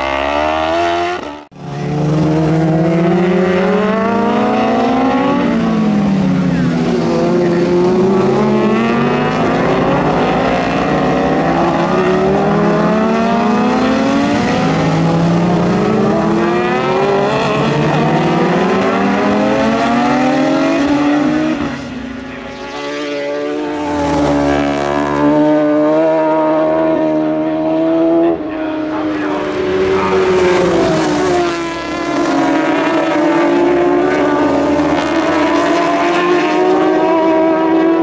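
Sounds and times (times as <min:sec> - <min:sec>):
racing motorcycle engines: 0:00.0 - 0:38.0.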